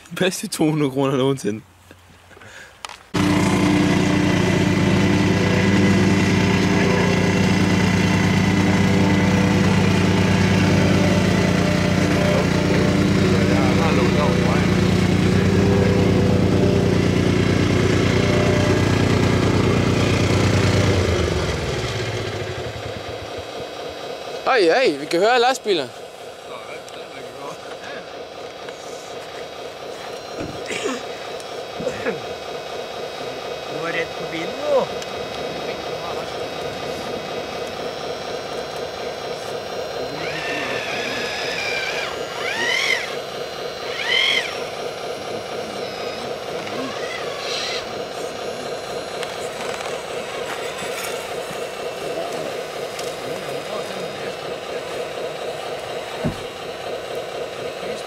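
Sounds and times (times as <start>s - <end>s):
model loader motor whine: 2.8s - 58.0s
simulated diesel engine running: 2.8s - 58.0s.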